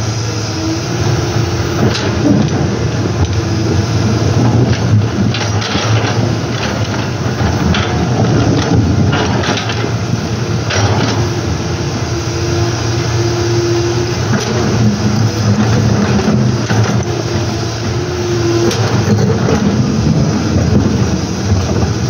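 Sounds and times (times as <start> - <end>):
excavator diesel engine under load: 0.0 - 22.0
high steady whine: 0.0 - 22.0.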